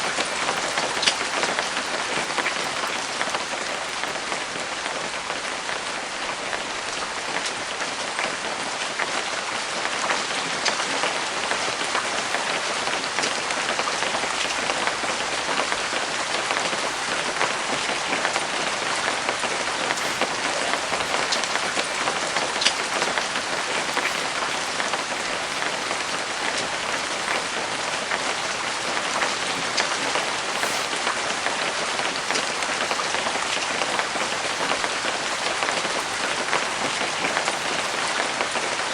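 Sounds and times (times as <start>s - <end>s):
raindrop ticks: 0.0s - 5.0s, 11.5s - 38.9s
steady rain: 0.0s - 10.1s, 11.1s - 38.9s.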